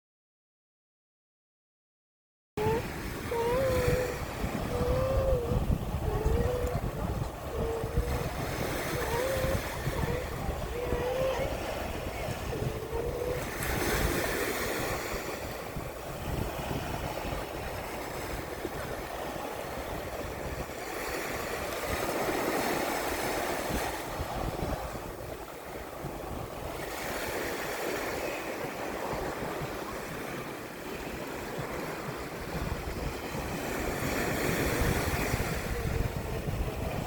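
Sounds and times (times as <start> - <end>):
surf washing on sandy beach: 2.6 - 37.0
wind rumbling on microphone: 2.6 - 37.0.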